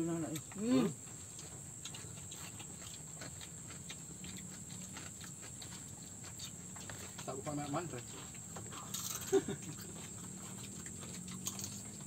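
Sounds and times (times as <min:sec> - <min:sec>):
chewing smacks: 0:00.3 - 0:12.0.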